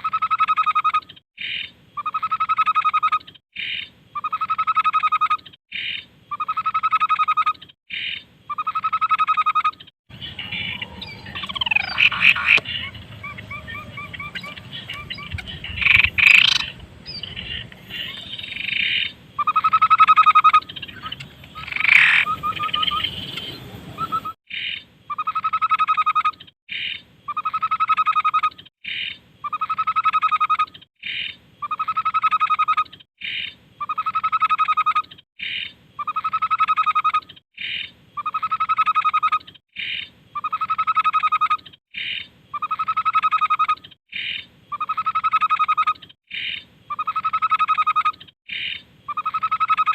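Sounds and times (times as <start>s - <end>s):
babbler bird song: 0.0s - 49.9s.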